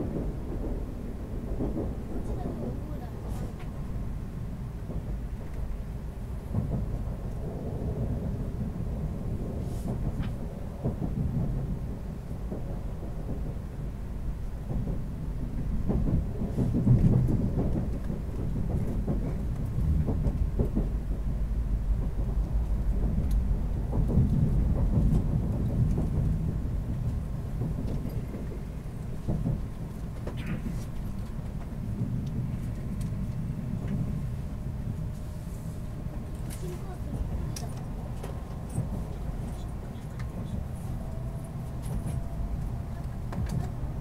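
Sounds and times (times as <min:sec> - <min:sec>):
train rumble inside cabin: 0:00.0 - 0:44.0.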